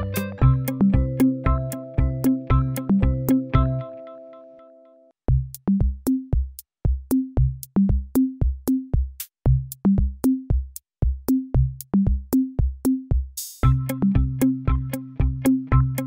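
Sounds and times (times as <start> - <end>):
drum-machine beat: 0.0 - 3.8, 5.3 - 16.0.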